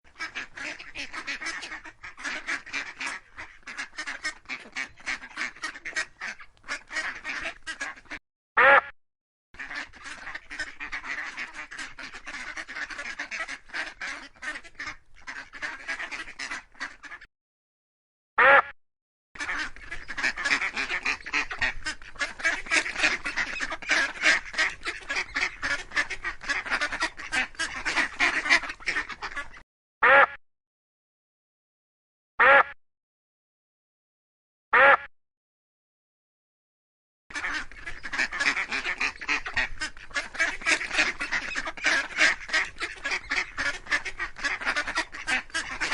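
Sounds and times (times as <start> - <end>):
ducks quacking: 0.1 - 8.9, 9.6 - 17.3, 18.4 - 18.7, 19.4 - 30.4, 32.4 - 32.7, 34.8 - 35.1, 37.3 - 45.9.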